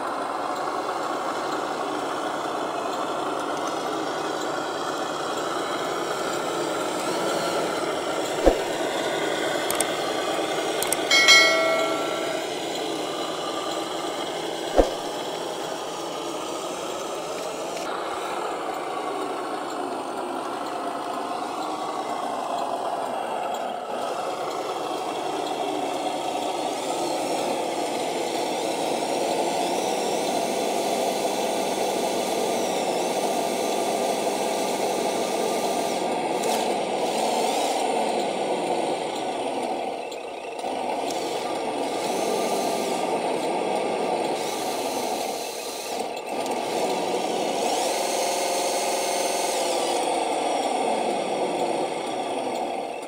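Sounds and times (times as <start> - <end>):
toy truck motor whirring: 1.4 - 11.1, 15.2 - 53.0.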